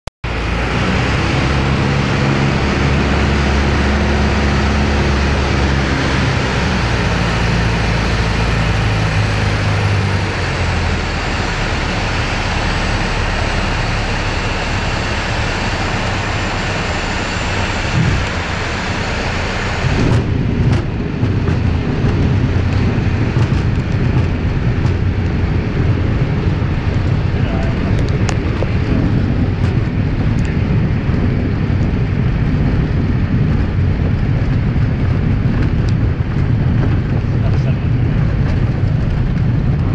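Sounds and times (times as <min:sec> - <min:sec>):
aircraft engine and propeller: 0:00.2 - 0:39.9
wheels rumbling on grass runway: 0:00.2 - 0:39.9.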